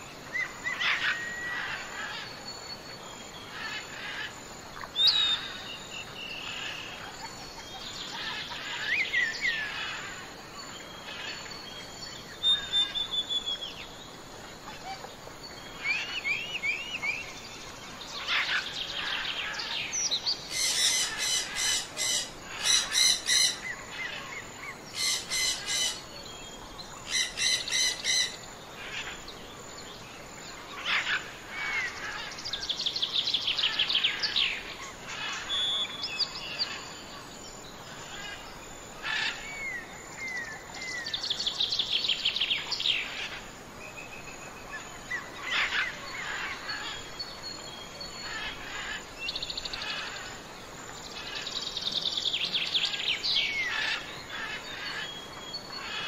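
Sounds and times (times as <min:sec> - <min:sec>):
faint background hiss: 0:00.0 - 0:56.0
wild birds singing: 0:00.0 - 0:56.0.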